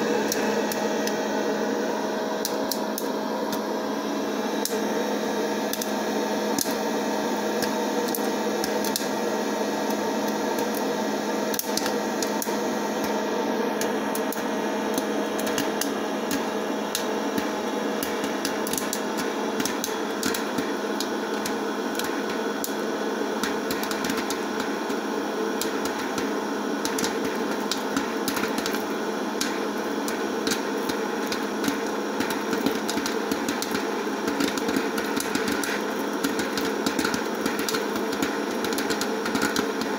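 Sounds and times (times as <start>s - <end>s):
popcorn kernels popping: 0.0s - 1.4s, 2.3s - 3.7s, 4.6s - 4.8s, 5.6s - 39.9s
popcorn popper fan humming: 0.0s - 39.9s.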